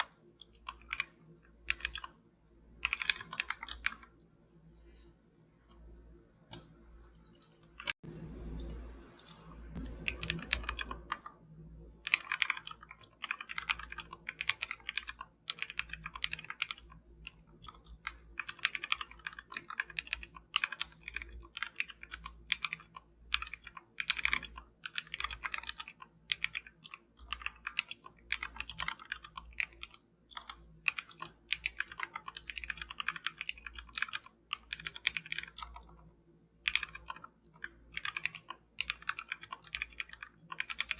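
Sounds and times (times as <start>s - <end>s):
mechanical keyboard typing: 0.0s - 2.2s, 2.8s - 4.1s, 6.5s - 8.0s, 8.6s - 11.4s, 12.0s - 40.9s.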